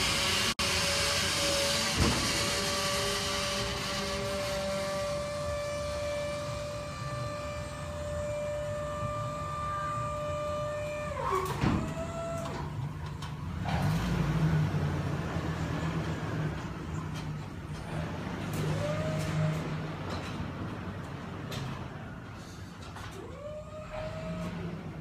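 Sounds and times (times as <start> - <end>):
hydraulic pump motor whining: 0.0 - 25.0.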